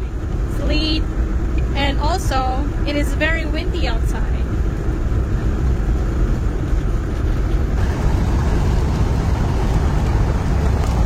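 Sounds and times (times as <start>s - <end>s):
vehicle driving on highway: 0.0s - 11.0s.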